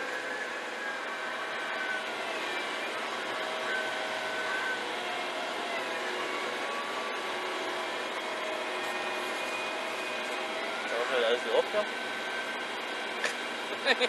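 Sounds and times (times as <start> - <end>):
faint wavering whine: 0.0 - 13.8
tractor diesel engine running: 0.0 - 14.0.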